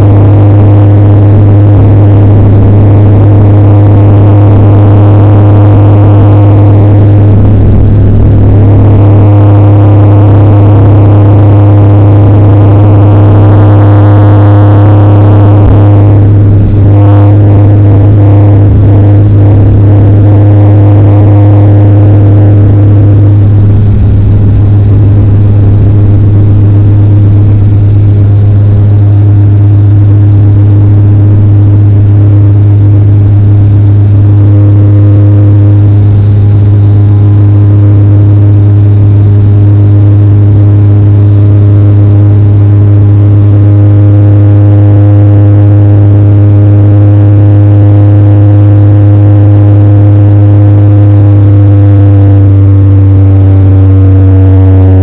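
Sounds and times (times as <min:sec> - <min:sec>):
airliner engine drone in cabin: 0:00.0 - 0:55.0.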